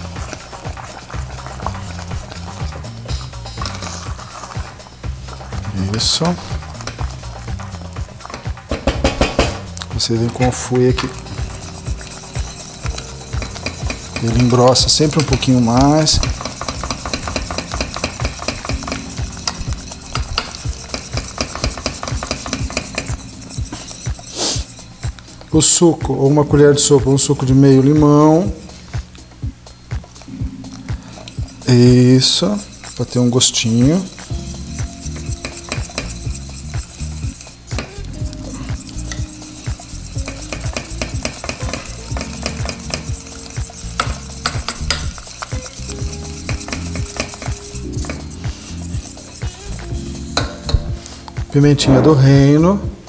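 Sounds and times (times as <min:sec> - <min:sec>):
whisk ticking against pan: 0:00.0 - 0:28.6, 0:31.0 - 0:51.6.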